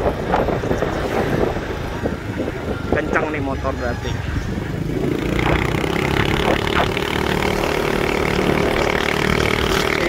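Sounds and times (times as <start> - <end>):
motor scooter engine drone: 0.0 - 10.0.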